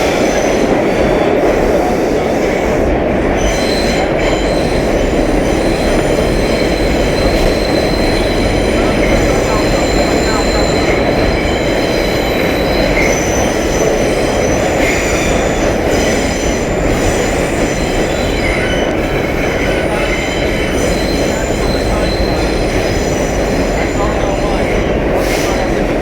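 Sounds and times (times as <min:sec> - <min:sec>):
subway cars rumbling on rails: 0:00.0 - 0:26.0
high-pitched wheel squeal: 0:03.4 - 0:25.6.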